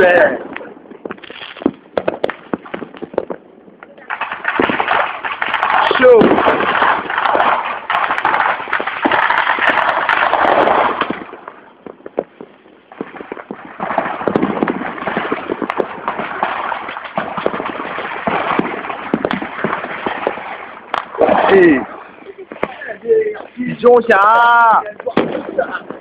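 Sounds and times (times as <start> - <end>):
firecrackers bangs and pops: 0.0 - 24.2, 24.8 - 26.0.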